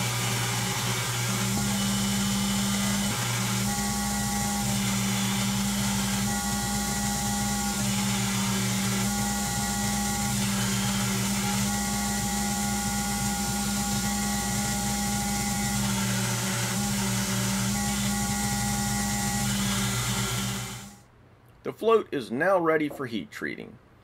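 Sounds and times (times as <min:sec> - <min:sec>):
belt grinder motor running: 0:00.0 - 0:21.0
steel grinding whine: 0:00.0 - 0:21.0.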